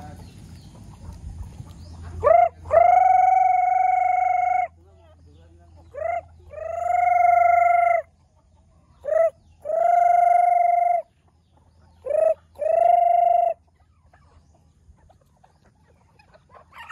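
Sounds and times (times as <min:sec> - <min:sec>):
faint low hum: 0:00.0 - 0:16.9.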